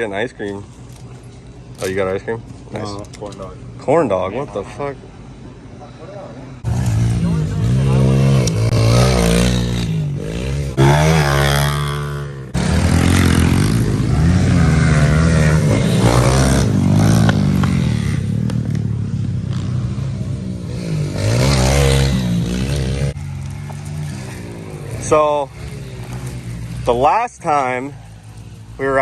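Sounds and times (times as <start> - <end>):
pit bike engines revving: 0.0 - 29.0.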